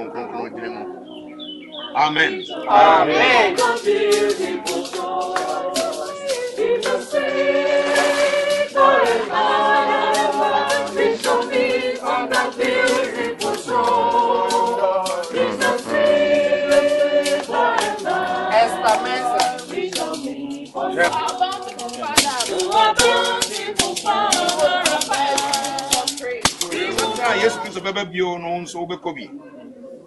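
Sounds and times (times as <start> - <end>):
group singing a hymn: 0.0 - 28.1.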